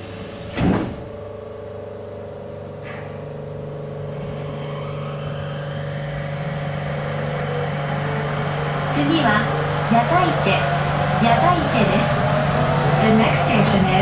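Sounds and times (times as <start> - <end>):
electric drive hum: 1.0 - 14.0.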